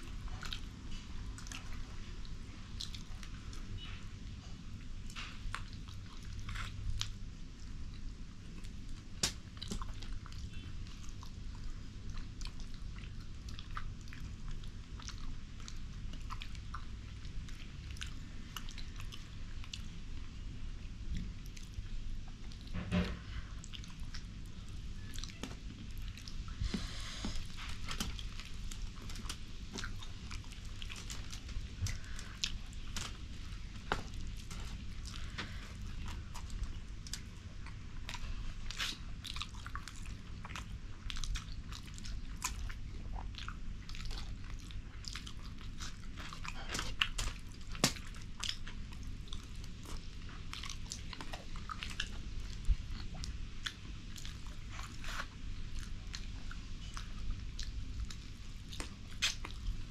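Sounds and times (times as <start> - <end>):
wet chewing and lip smacks: 0.0 - 59.9.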